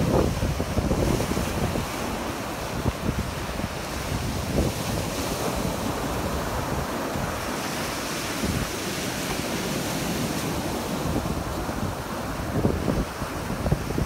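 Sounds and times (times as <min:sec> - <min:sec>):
sea surf breaking on beach: 0:00.0 - 0:14.0
wind rumbling on microphone: 0:00.0 - 0:14.0.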